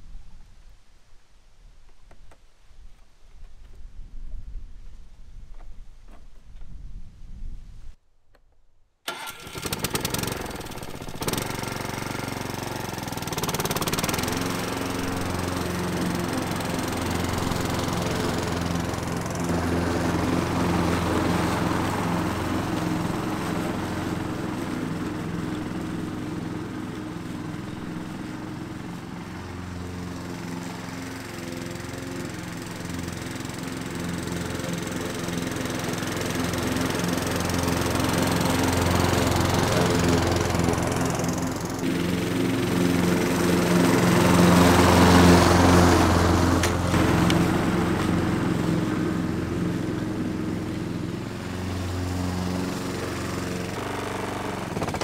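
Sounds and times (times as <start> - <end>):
lawn mower cutting grass: 9.1 - 55.0.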